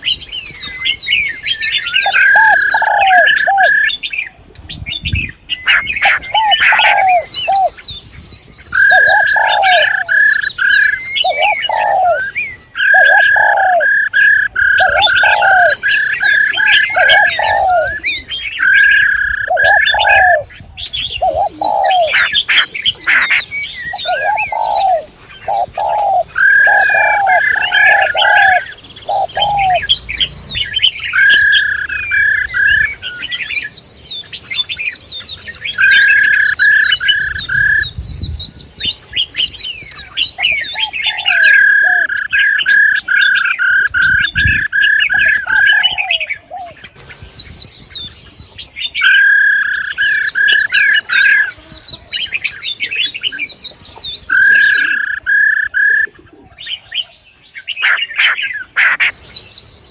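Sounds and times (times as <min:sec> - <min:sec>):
songbirds calling: 0:00.0 - 0:59.9.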